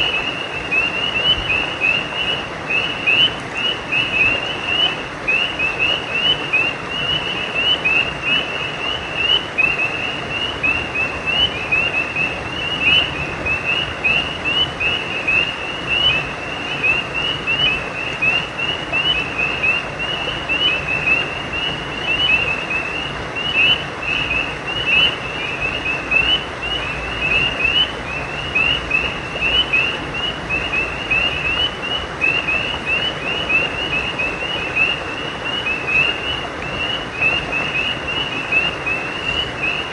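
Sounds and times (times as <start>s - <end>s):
frogs chirping: 0.0s - 39.9s
steady background hiss: 0.0s - 39.9s.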